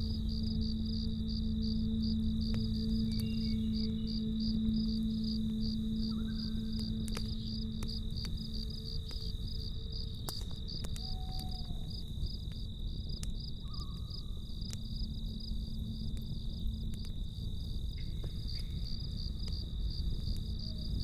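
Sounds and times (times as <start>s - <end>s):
burning wood crackles and pops: 0.0s - 21.0s
campfire rumble: 0.0s - 21.0s
crickets chirping: 0.0s - 21.0s.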